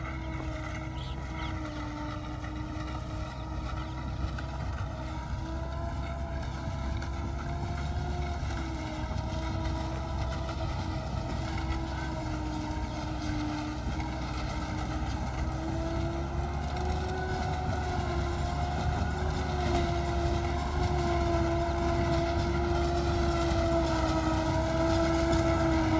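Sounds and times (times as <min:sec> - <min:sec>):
harvester engine drone: 0:00.0 - 0:25.9.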